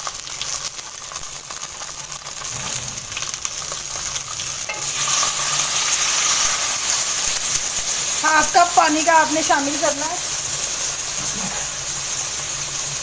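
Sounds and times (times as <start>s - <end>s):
chicken sizzling in hot oil: 0.0s - 13.0s
water steaming in hot pan: 0.0s - 13.0s.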